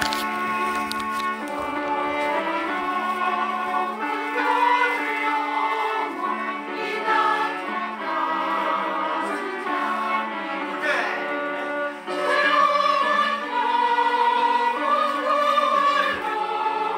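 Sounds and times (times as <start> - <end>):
choir singing a hymn: 1.4 - 16.9.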